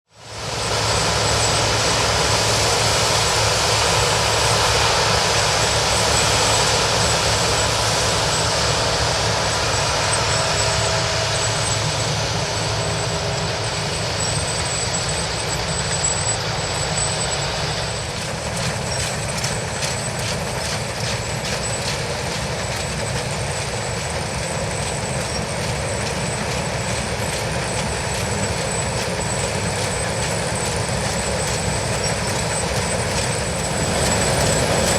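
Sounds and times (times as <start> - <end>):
combine harvester drone: 0.1 - 34.9.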